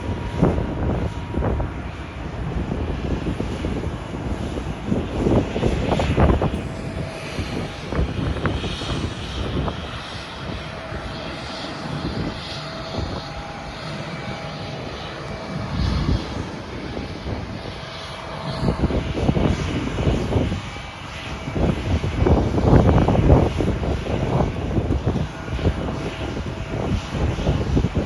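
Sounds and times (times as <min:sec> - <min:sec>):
faint steady engine whine: 0:00.0 - 0:28.0
jet engines rushing: 0:00.0 - 0:28.0.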